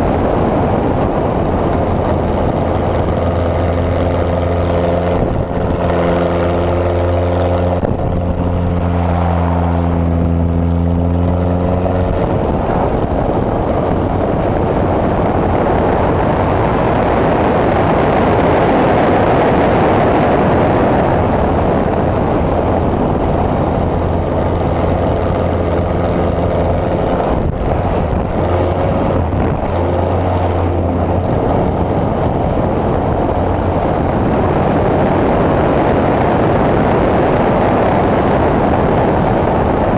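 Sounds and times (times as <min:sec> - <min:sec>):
propeller plane engine: 0:00.0 - 0:39.9
wind noise on microphone: 0:00.0 - 0:39.9.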